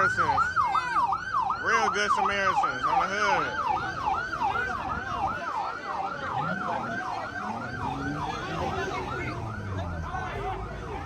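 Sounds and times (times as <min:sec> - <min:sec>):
emergency siren yelping: 0:00.0 - 0:11.0.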